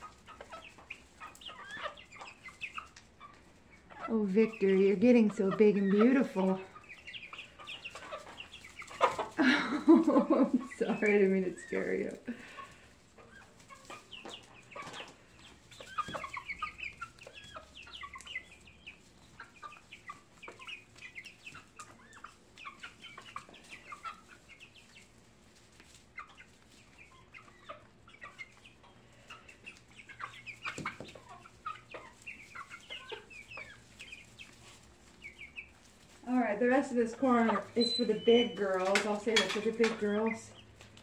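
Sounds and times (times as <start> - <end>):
young chickens clucking and chirping: 0.0 - 41.0.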